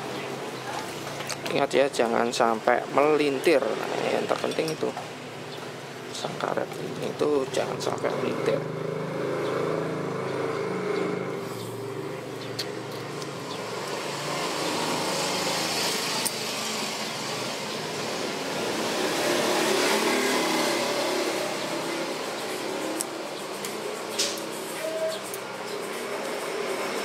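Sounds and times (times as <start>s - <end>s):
passing road traffic: 0.0s - 27.0s.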